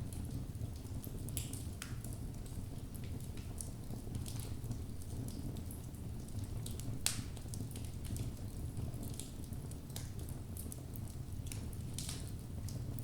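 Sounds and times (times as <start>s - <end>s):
fire crackling and popping: 0.1s - 13.0s.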